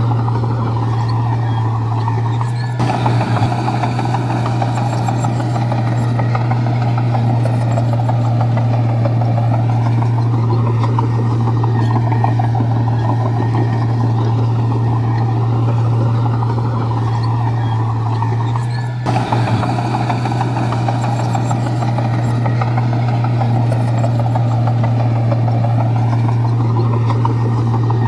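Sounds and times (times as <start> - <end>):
bulldozer diesel engine: 0.0 - 28.0
mechanical clatter: 2.0 - 28.0.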